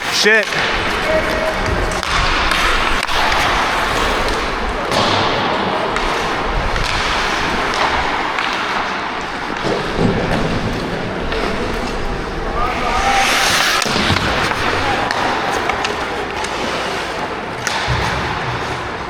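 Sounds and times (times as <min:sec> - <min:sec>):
skate blades scraping on ice: 0:00.0 - 0:19.0.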